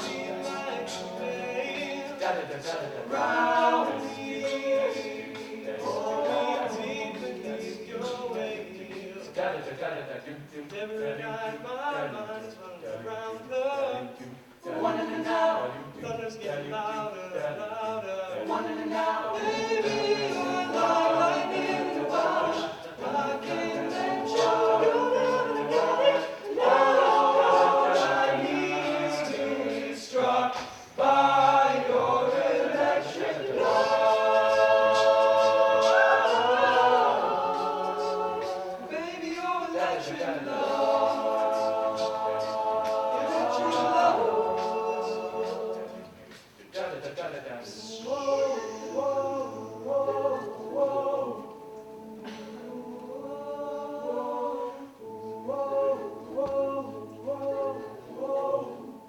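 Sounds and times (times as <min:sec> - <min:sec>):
a cappella group singing: 0:00.0 - 0:59.0.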